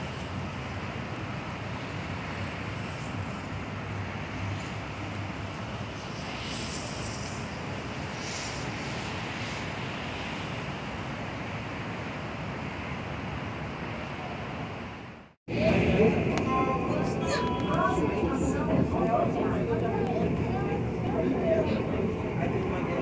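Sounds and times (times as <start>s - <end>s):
distant traffic rumble: 0.0s - 23.0s
wind on microphone: 0.0s - 23.0s.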